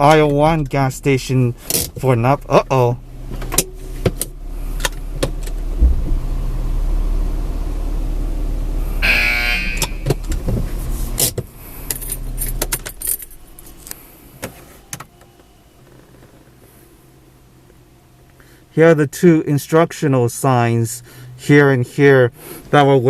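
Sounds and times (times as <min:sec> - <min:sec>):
car running at low speed: 0:00.0 - 0:18.8.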